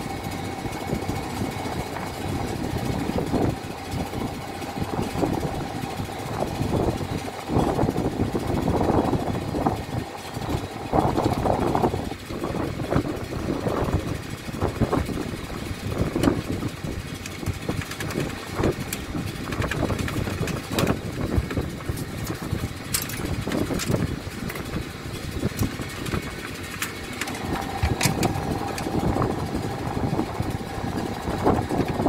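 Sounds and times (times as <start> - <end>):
low machinery rumble: 0.0 - 32.0
thin whine: 0.0 - 32.0.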